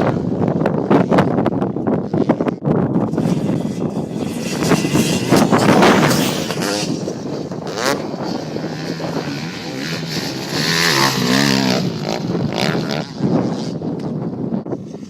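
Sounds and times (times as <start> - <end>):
motorbike engine revving: 0.0 - 13.9.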